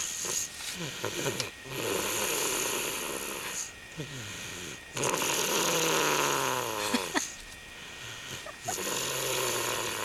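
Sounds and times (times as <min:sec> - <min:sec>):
toddler snoring: 0:00.0 - 0:07.1, 0:07.8 - 0:10.0.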